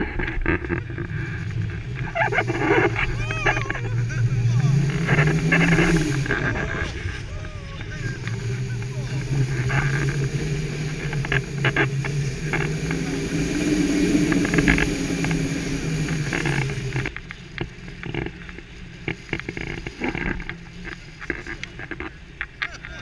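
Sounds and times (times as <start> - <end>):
wind rushing over microphone: 0.0 - 22.0
steady low drone: 0.0 - 22.5.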